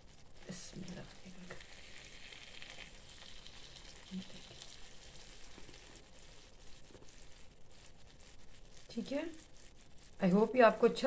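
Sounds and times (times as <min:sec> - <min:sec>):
faint sizzling in a frying pan: 0:00.0 - 0:11.0.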